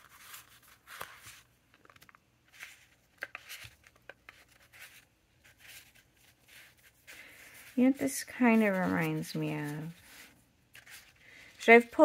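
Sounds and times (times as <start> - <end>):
paper cards rustling and sliding: 0.0 - 12.0.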